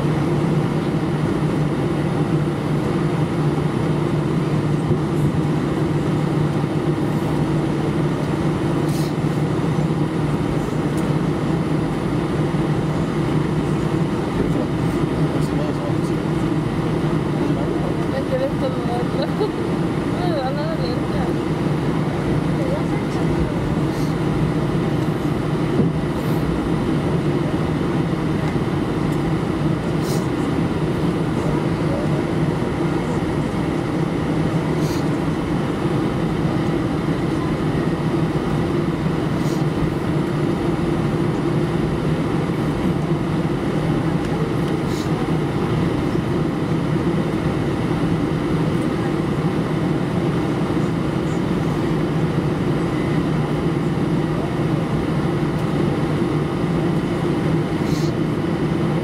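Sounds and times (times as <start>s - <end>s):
low drone inside aircraft cabin: 0.0s - 59.0s.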